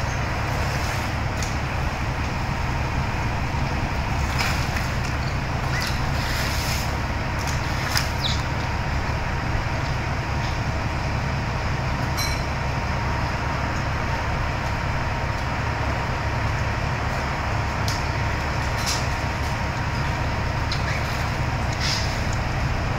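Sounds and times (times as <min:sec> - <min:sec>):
large engine rumbling: 0:00.0 - 0:22.9.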